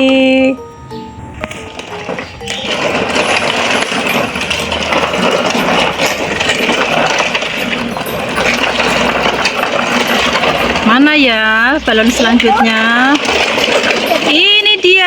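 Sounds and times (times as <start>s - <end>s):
toy truck rattling along: 1.4s - 15.0s.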